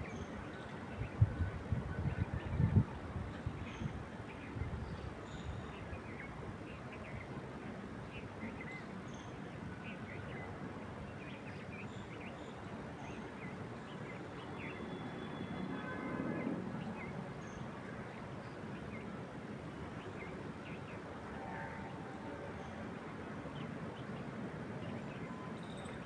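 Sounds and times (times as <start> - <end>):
wind through trees: 0.0 - 26.0.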